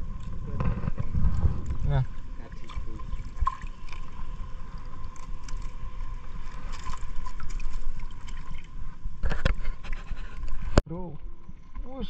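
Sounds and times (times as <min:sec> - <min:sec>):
water sloshing and lapping: 0:00.0 - 0:10.8
wind rumbling on microphone: 0:00.0 - 0:11.9
small splashes and clicks: 0:00.1 - 0:10.8.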